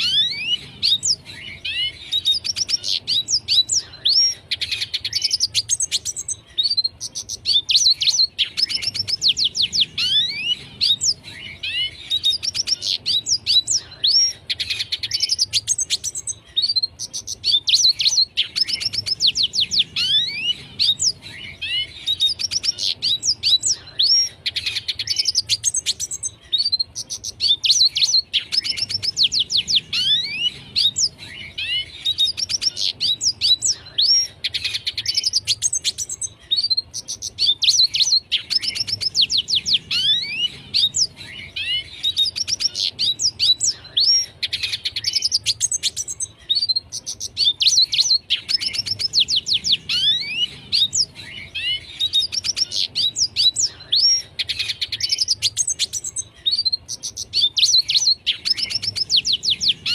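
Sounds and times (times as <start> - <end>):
bird singing twittering trills: 0.0 - 59.9.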